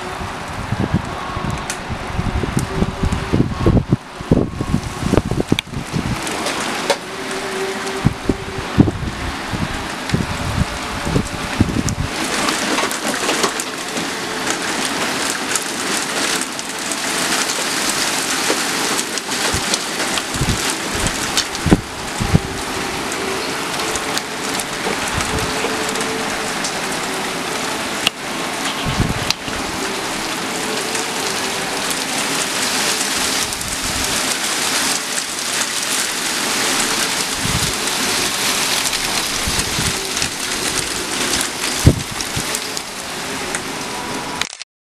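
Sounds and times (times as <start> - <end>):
heavy rain and hail on car roof: 0.0 - 44.6.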